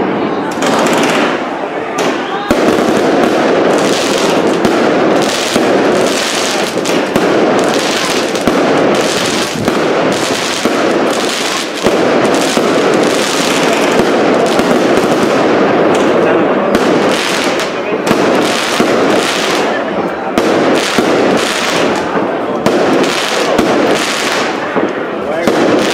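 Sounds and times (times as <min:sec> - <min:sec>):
fireworks bangs: 0:00.0 - 0:25.9
fireworks crackling: 0:00.0 - 0:25.9.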